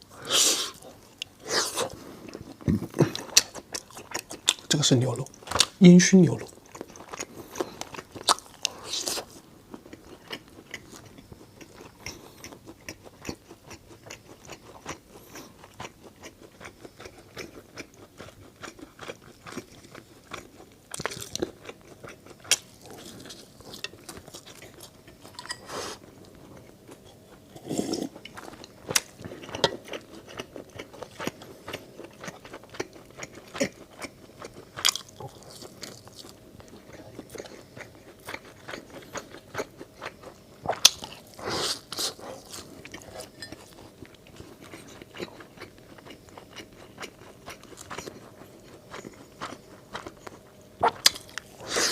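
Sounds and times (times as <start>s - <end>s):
person chewing food: 0.2s - 51.9s.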